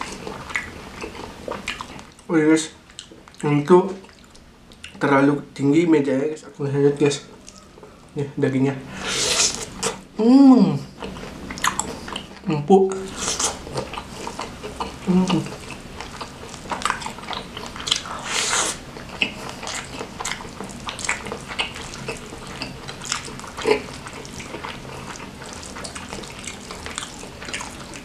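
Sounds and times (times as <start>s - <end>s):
wet chewing and lip smacking: 0.0s - 5.0s, 7.2s - 8.2s, 11.0s - 28.0s.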